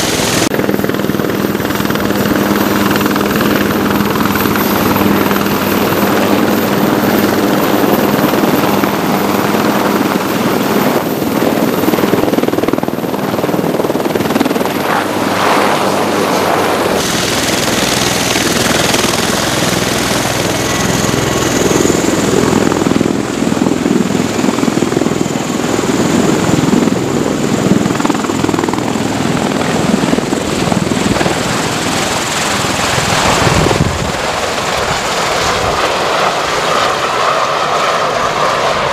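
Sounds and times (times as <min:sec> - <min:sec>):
helicopter rotor and turbine noise: 0:00.0 - 0:38.9
tiltrotor turbine whine: 0:00.0 - 0:38.9.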